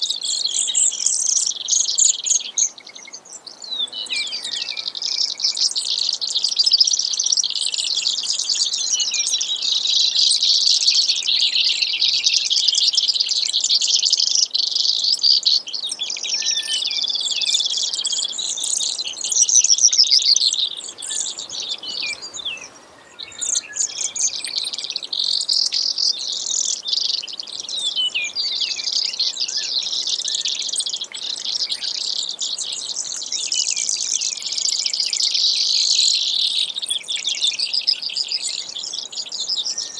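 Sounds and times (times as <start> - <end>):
sparrow singing trills: 0.0 - 39.9.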